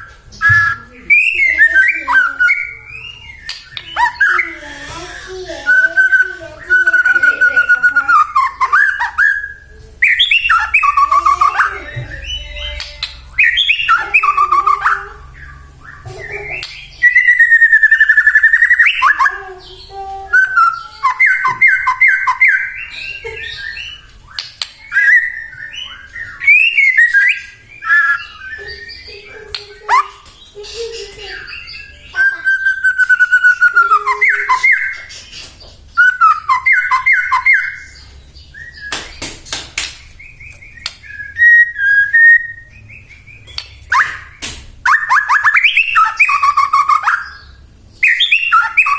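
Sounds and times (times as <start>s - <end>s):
bird singing whistled phrases: 0.0s - 4.6s, 5.5s - 39.0s, 40.2s - 48.9s.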